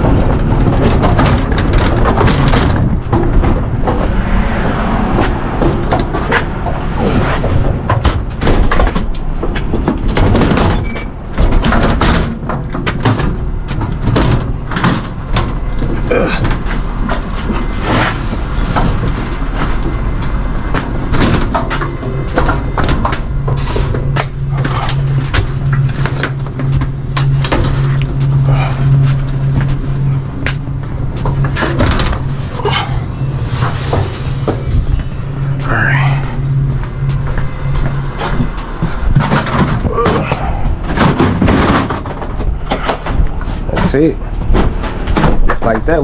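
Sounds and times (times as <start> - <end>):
cargo and doors knocking and rattling: 0.0 - 46.0
low vehicle rumble: 0.0 - 46.0
steady low hum: 0.0 - 46.0.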